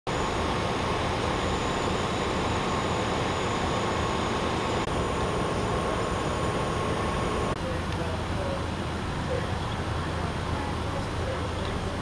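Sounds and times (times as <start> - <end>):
faint steady whine: 0.1 - 12.0
vehicle noise rumble: 0.1 - 12.0.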